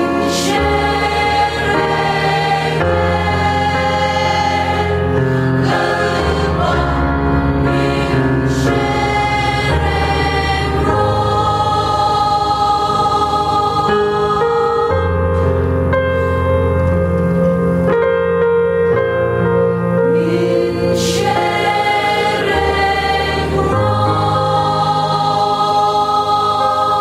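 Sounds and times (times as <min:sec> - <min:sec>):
choir singing a hymn: 0:00.0 - 0:16.7, 0:20.0 - 0:27.0.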